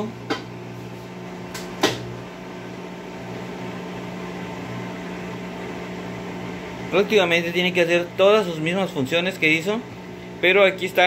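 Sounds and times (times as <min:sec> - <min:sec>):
drain pump humming: 0:00.0 - 0:11.0.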